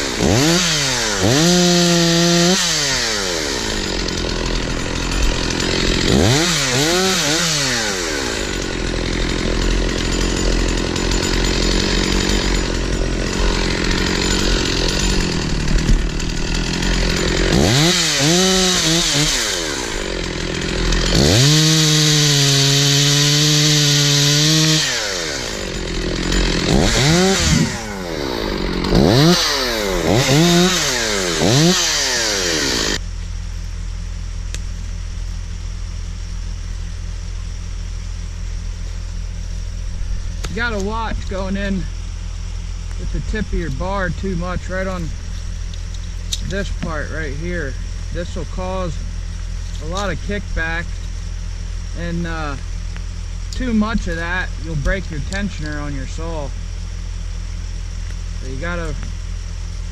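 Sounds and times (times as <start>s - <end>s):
chainsaw cutting wood: 0.0s - 33.7s, 34.4s - 59.9s.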